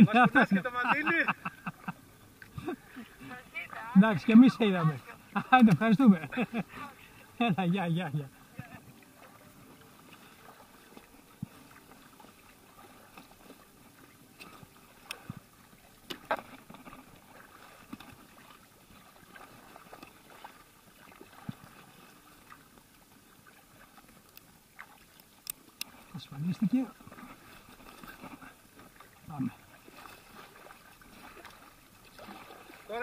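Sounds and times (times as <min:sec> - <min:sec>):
faint water sounds: 0:00.0 - 0:33.0.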